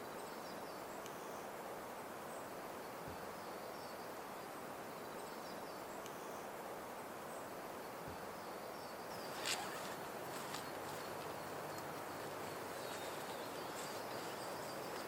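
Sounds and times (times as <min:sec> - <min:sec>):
forest hiss: 0:00.0 - 0:15.0.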